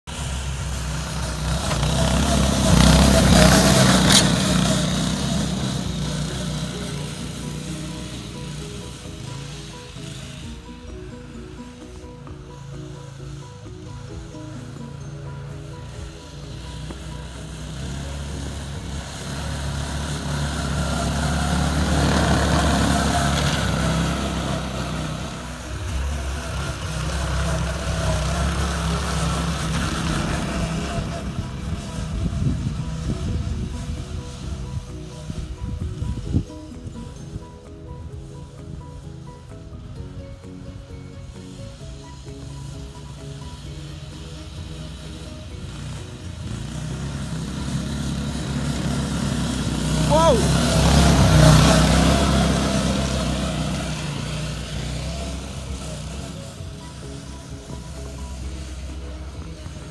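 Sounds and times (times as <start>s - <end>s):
snowmobile engine hum: 0.0s - 59.9s.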